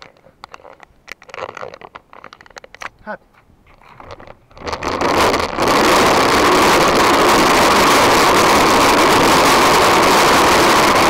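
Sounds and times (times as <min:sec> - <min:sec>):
toy wheels rolling over asphalt: 0:00.0 - 0:02.9, 0:03.7 - 0:11.0.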